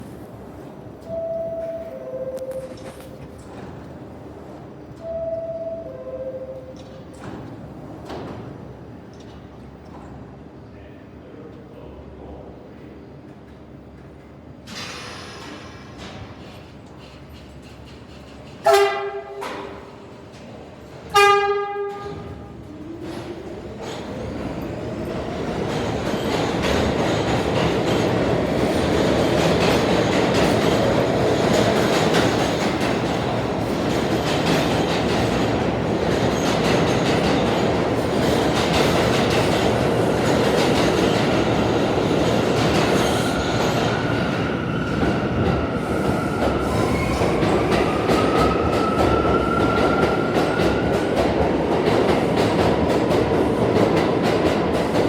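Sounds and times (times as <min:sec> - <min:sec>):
subway train rumbling on tracks: 0:00.0 - 0:55.0.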